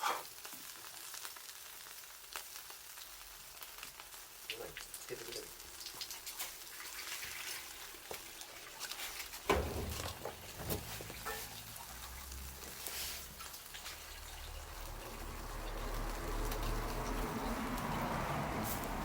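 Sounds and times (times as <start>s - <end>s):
campfire crackling: 0.0s - 6.8s, 7.7s - 19.0s.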